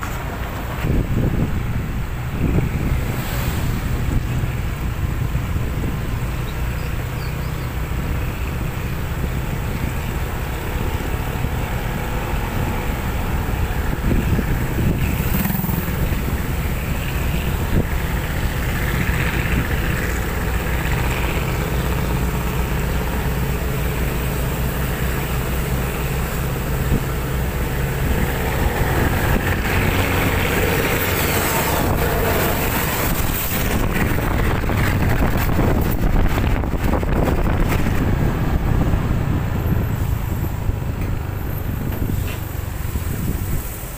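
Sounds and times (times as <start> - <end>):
wind on the microphone: 0.0 - 7.4, 8.6 - 22.2, 28.0 - 43.9
diesel truck engines rumbling: 0.0 - 43.9
tyre and road noise: 0.0 - 43.9.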